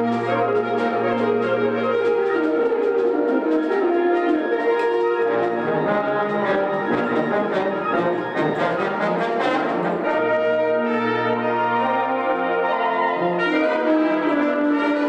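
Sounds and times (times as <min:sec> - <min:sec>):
concert band playing: 0:00.0 - 0:15.0.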